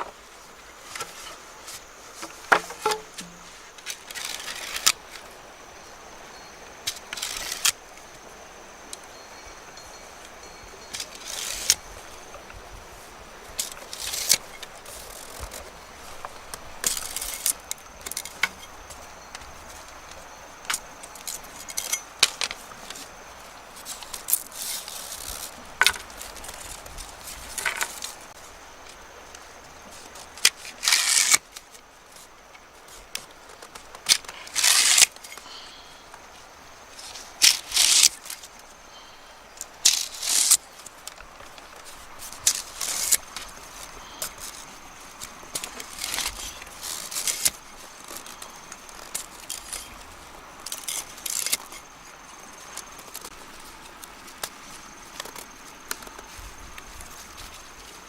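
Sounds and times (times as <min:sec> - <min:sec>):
rustling and crackling handling noises: 0:00.0 - 0:58.0.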